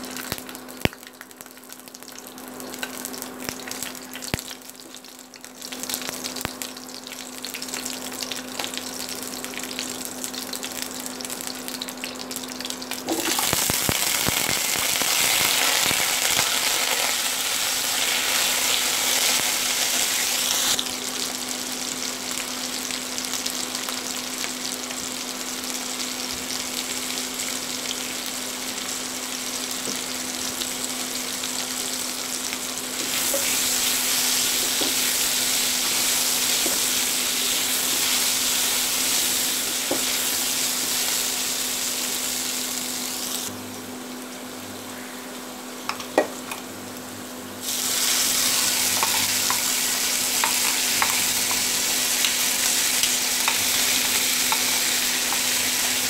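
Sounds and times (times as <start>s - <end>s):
potatoes sizzling in hot oil: 0.0s - 56.0s.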